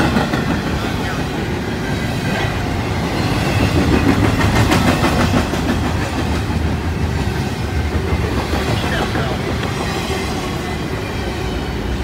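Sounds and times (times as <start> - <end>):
rumble of steel train wheels: 0.0 - 12.0.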